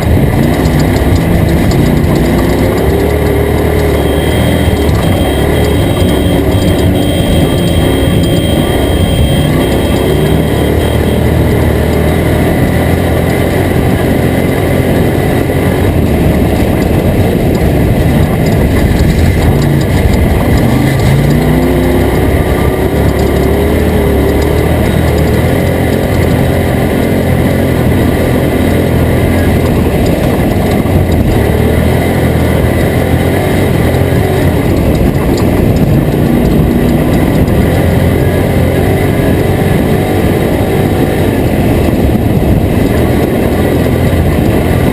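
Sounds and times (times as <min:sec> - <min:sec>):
loud rush and rattle: 0:00.0 - 0:44.9
truck engine revving: 0:00.0 - 0:44.9.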